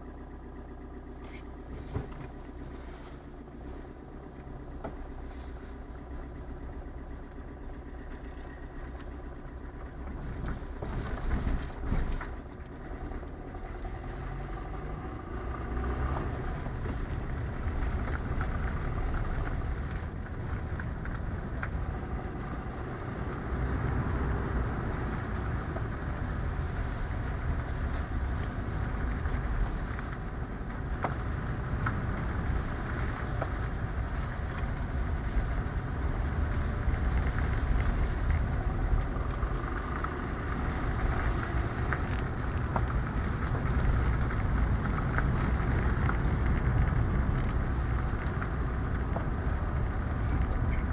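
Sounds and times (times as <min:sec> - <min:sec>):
car engine and tyre rumble: 0:00.0 - 0:50.9.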